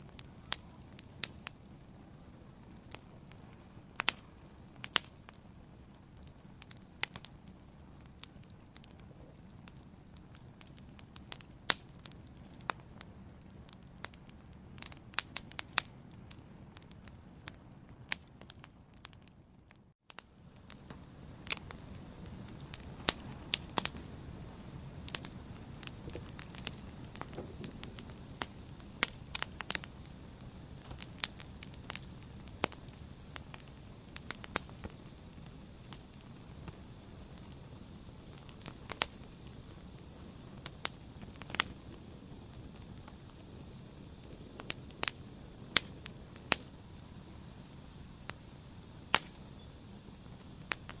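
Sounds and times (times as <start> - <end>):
log fire crackling: 0.0 - 51.0.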